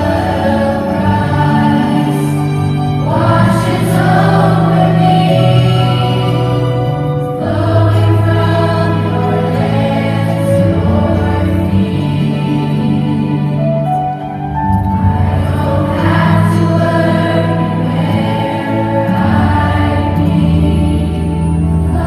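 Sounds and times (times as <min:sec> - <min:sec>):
sustained low accompaniment chords: 0:00.0 - 0:22.0
youth choir singing: 0:00.0 - 0:22.0.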